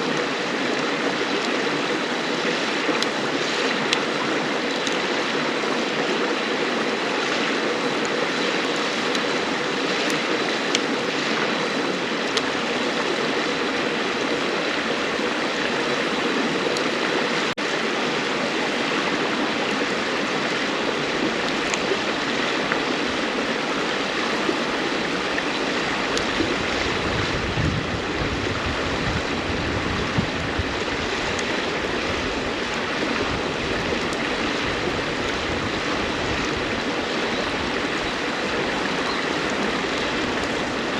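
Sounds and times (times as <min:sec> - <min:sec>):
campfire crackling: 0:00.0 - 0:40.9
river water rushing: 0:00.0 - 0:40.9.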